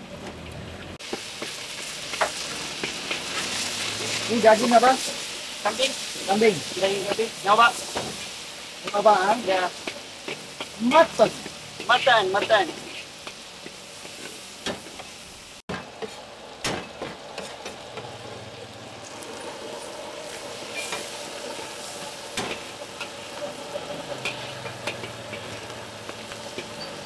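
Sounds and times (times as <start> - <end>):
oil sizzling in a wok: 0.0 - 27.0
metal spatula scraping wok: 1.0 - 27.0.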